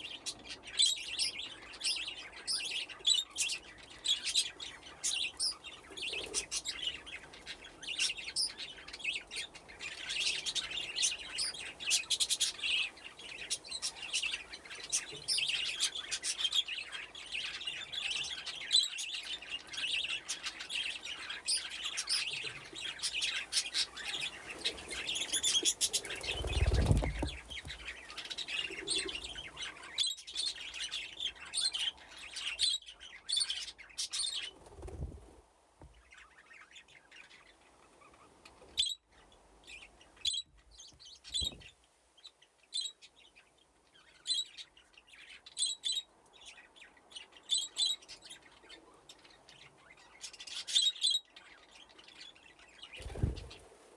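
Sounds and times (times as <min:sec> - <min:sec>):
budgerigars chattering and chirping: 0:00.0 - 0:34.9, 0:36.1 - 0:41.7, 0:42.7 - 0:53.6.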